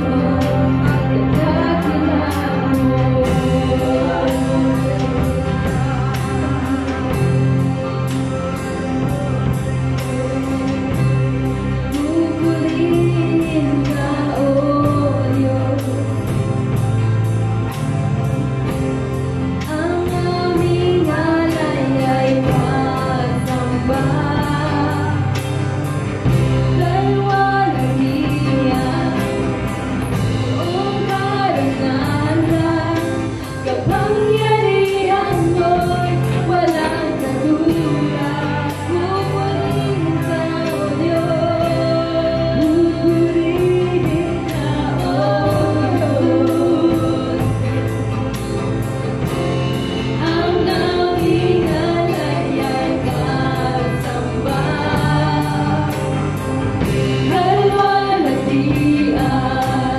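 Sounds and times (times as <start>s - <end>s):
women singing worship song: 0.0s - 16.8s, 19.6s - 48.0s, 50.2s - 59.9s
drum kit steady beat: 0.0s - 59.9s
live band: 0.0s - 59.9s.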